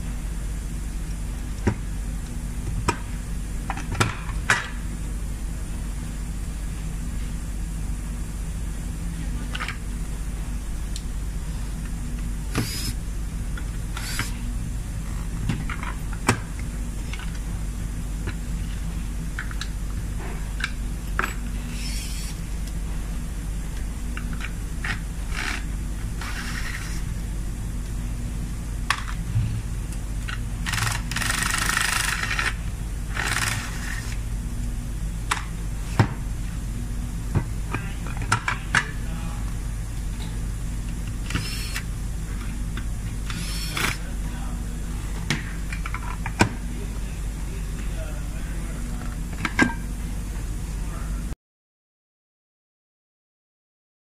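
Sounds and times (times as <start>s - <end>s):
steady low hum: 0.0s - 51.4s.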